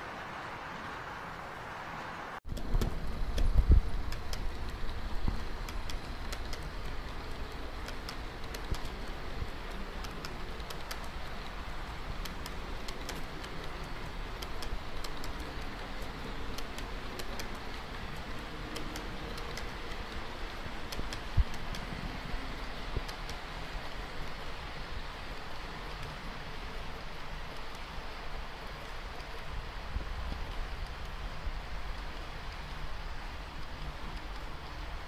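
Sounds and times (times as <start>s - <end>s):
model train rumbling: 0.0s - 35.0s
wheels clicking over rail joints: 2.5s - 35.0s.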